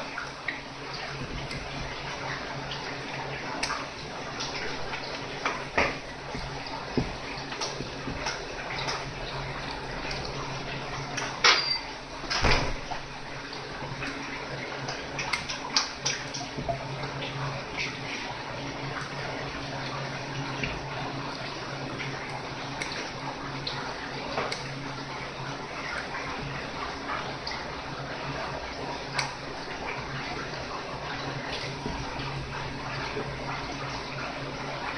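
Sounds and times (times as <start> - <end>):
water running: 0.0 - 34.9.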